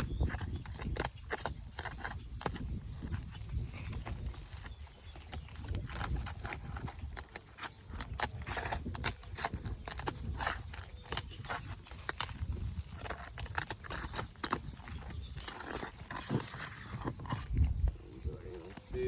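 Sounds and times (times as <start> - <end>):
prying tool scraping shingle: 0.0 - 19.0.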